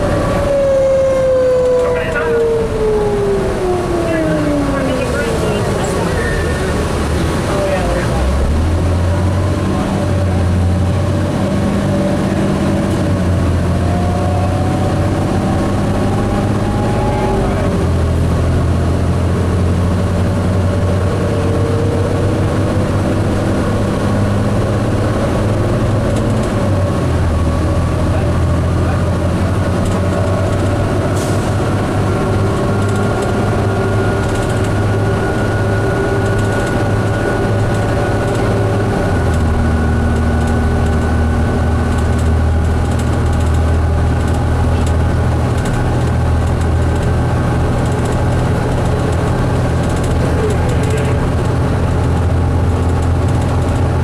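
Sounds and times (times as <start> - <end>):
bus engine drone with whine: 0.0 - 54.0.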